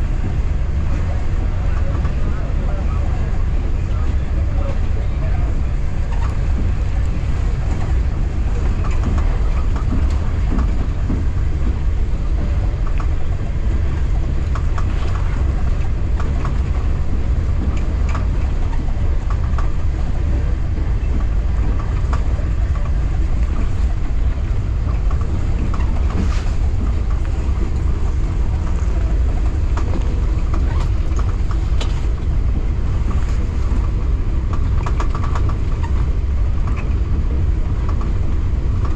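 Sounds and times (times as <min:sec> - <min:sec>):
train rumbling inside carriage: 0:00.0 - 0:38.9
rattles and clicks: 0:05.8 - 0:38.9.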